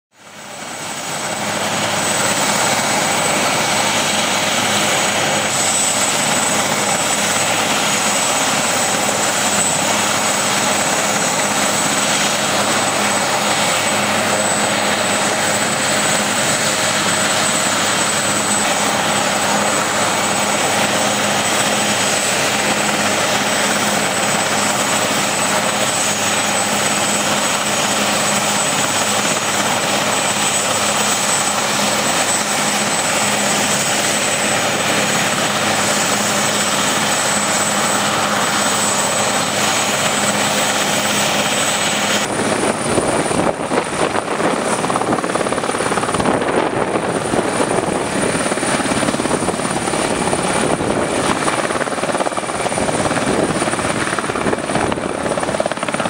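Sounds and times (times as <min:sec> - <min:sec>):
helicopter idling: 0:00.2 - 0:56.0
high turbine whine: 0:00.2 - 0:56.0.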